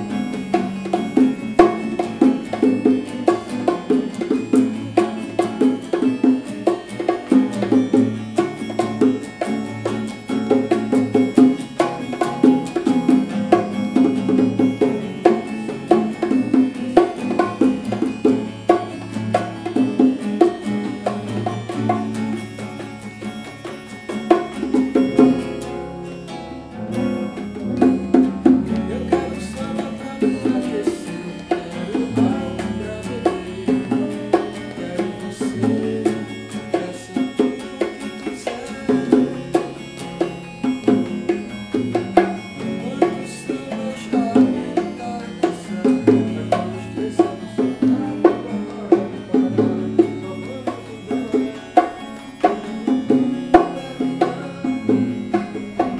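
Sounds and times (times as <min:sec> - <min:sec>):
acoustic guitars strummed: 0:00.0 - 0:55.9
bongos tapped by hand: 0:00.0 - 0:55.9.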